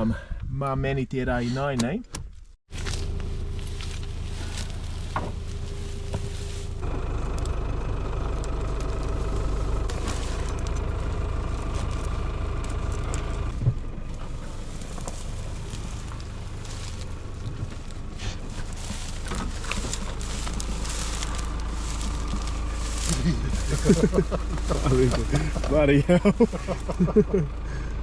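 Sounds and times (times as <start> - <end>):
truck engine running: 2.7 - 28.0.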